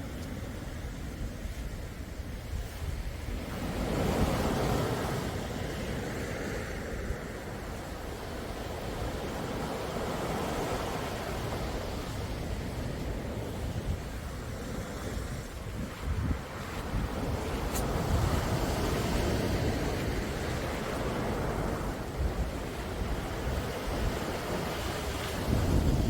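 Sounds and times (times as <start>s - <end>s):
sea waves washing in: 0.0s - 26.0s
wind rumble on microphone: 0.0s - 26.0s.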